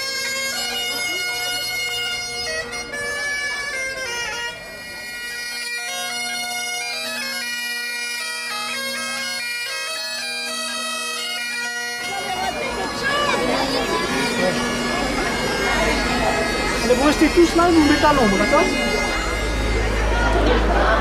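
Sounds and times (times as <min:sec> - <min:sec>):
bagpipes playing with drones: 0:00.0 - 0:21.0
bombarde playing a melody: 0:00.0 - 0:21.0.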